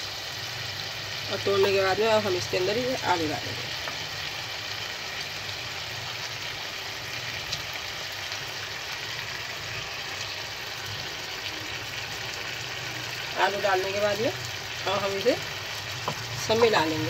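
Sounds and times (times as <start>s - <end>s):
gravy simmering: 0.0s - 17.0s.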